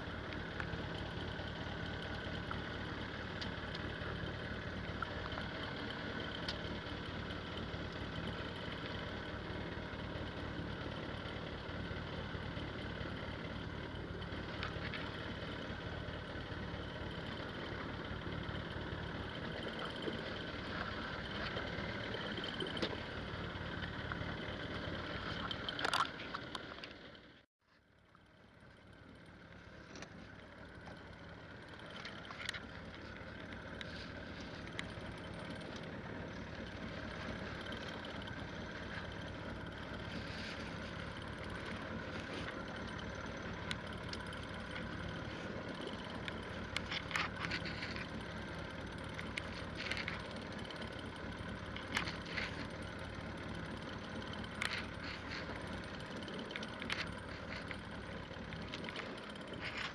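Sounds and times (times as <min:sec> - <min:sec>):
boat engine hum: 0:00.0 - 0:59.9
water: 0:00.0 - 0:59.9
wind: 0:00.0 - 0:59.9.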